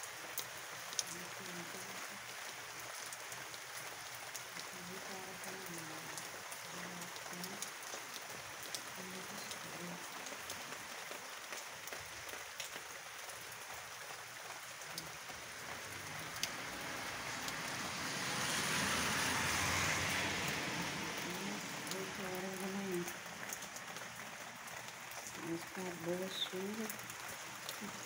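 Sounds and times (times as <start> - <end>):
rain hissing: 0.0 - 28.0
raindrops ticking: 0.0 - 28.0.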